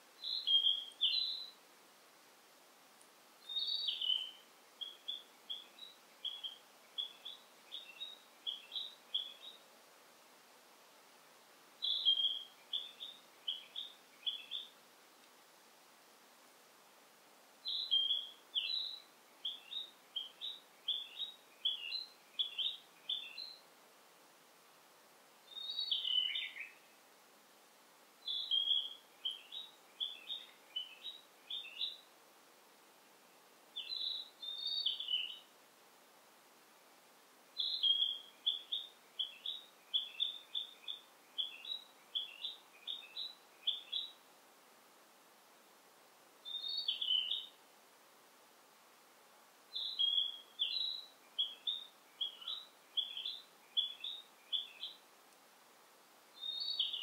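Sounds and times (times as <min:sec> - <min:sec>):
faint background hiss: 0:00.0 - 0:57.0
songbird chirping: 0:00.0 - 0:57.0.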